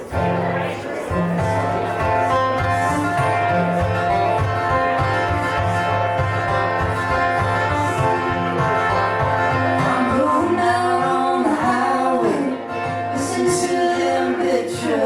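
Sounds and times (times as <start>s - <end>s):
bass line: 0.0s - 15.0s
plucked guitar: 0.0s - 15.0s.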